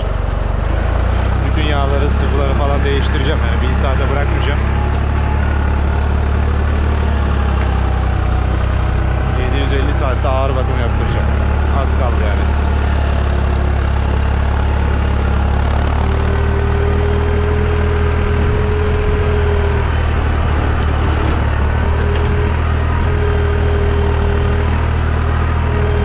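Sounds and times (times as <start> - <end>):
engine whine: 0.0 - 26.0
tractor diesel engine under load: 0.0 - 26.0.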